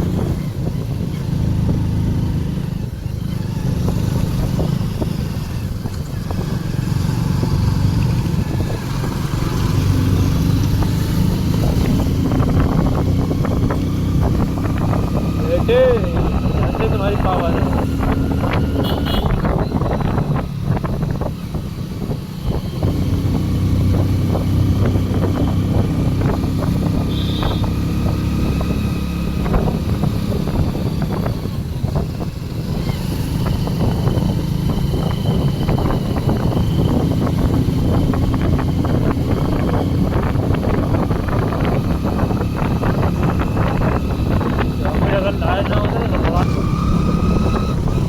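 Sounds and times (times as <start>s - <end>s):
motorcycle engine running: 0.0s - 48.0s
wind buffeting microphone: 0.0s - 48.0s.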